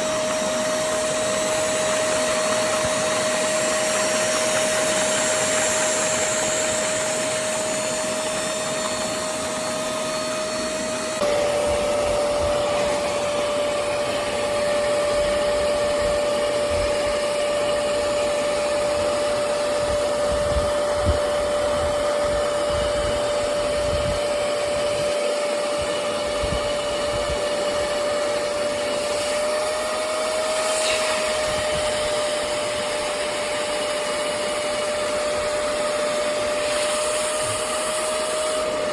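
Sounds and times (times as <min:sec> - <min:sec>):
suction motor whining: 0:00.0 - 0:38.9.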